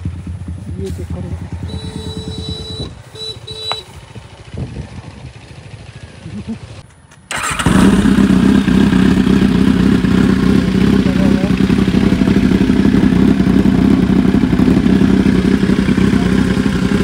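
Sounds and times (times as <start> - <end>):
motorcycle engine idling loud: 0.0 - 17.0.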